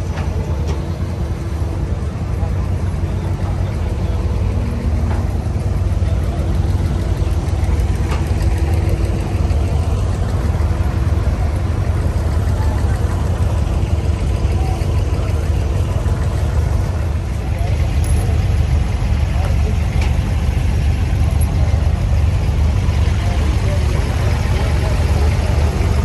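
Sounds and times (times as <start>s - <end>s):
boat diesel engine droning: 0.0s - 26.0s.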